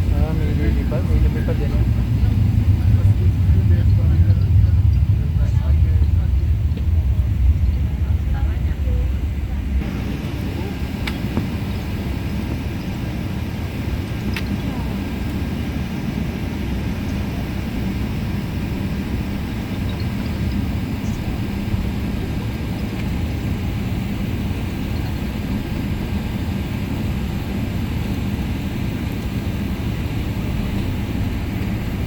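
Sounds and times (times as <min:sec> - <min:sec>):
jet airliner rumble from cabin: 0:00.0 - 0:32.0.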